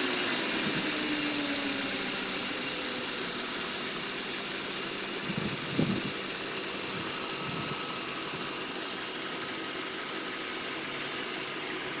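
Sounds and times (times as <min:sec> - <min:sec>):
car engine idling: 0:00.0 - 0:12.0
rapid engine ticking: 0:00.0 - 0:12.0.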